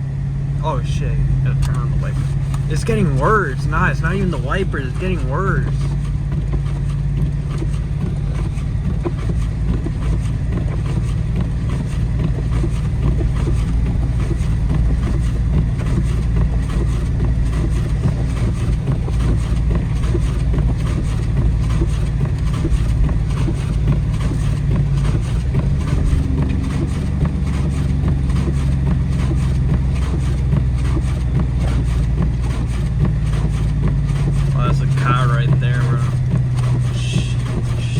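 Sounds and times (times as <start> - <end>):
car engine droning: 0.0 - 37.9.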